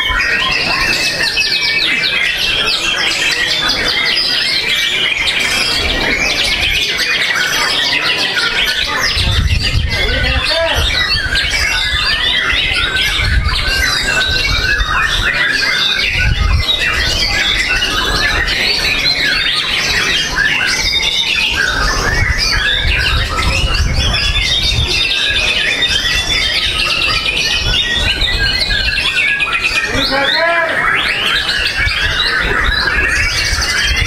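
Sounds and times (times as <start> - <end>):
bird singing: 0.0 - 34.0.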